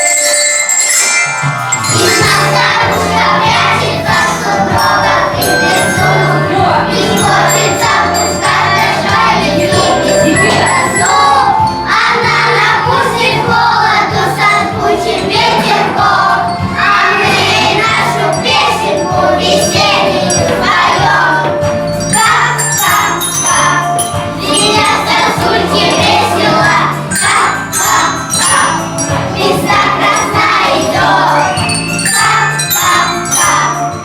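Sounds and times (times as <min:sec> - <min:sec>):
sleigh bells ringing: 0:00.0 - 0:34.0.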